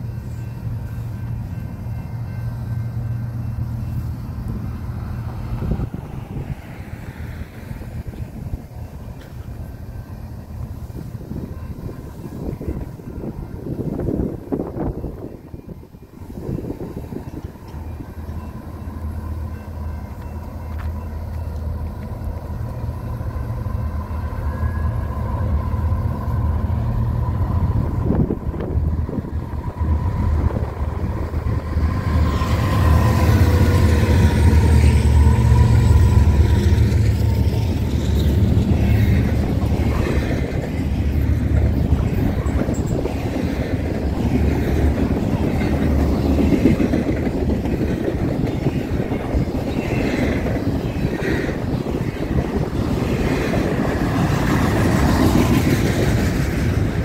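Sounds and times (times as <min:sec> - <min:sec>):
diesel locomotive engine rumble: 0:00.0 - 0:57.0
train wheels rolling on rails: 0:00.0 - 0:57.0.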